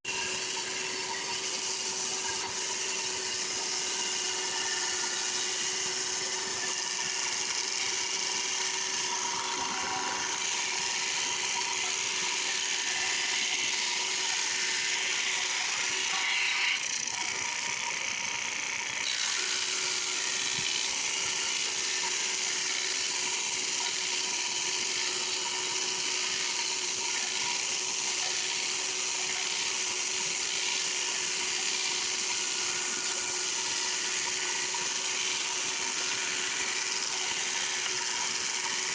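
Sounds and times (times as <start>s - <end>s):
drum sander whine: 0.0s - 38.9s.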